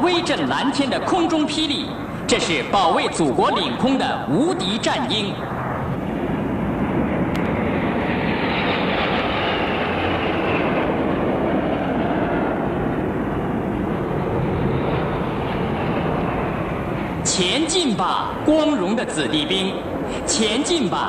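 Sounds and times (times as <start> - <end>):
jet aircraft roaring overhead: 0.0 - 21.0.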